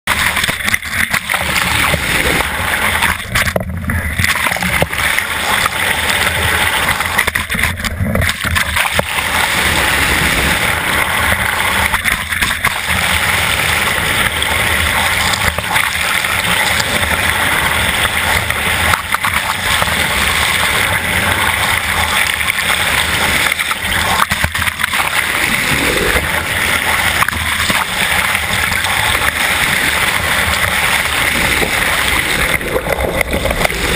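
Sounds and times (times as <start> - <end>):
water rushing and gurgling: 0.0 - 33.9.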